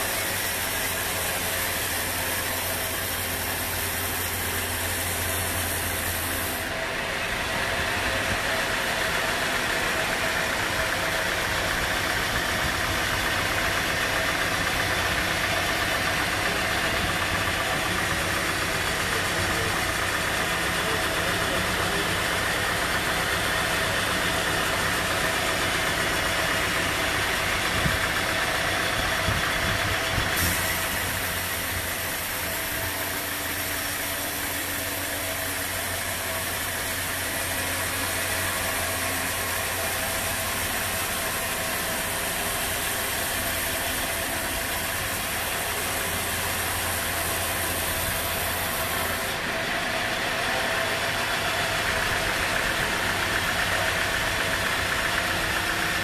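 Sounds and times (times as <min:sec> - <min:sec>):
band saw drone: 0:00.0 - 0:56.0.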